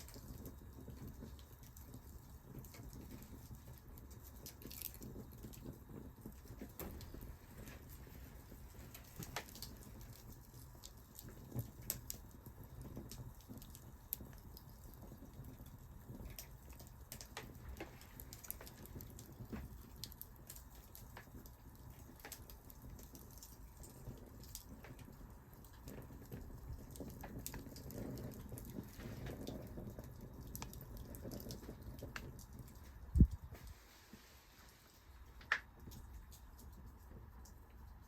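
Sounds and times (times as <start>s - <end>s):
low steady rumble of fire: 0.0s - 38.0s
wood fire crackling and popping: 0.0s - 38.0s.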